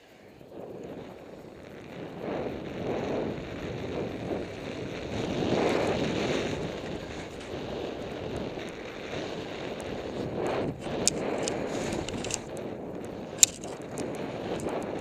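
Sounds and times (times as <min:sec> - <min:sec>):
skis sliding on snow: 0:00.0 - 0:15.0
wind rushing over microphone: 0:00.0 - 0:15.0.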